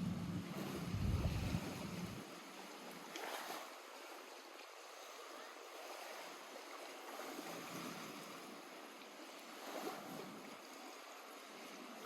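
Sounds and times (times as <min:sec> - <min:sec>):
lake water washing at shore: 0:00.0 - 0:12.0
small water splash: 0:00.3 - 0:12.0.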